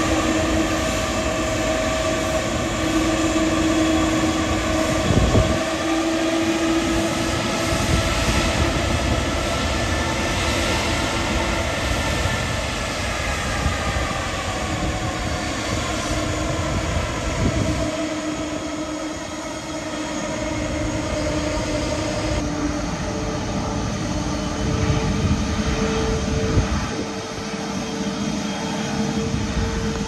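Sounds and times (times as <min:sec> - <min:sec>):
jet airliner engines whining: 0:00.0 - 0:30.0.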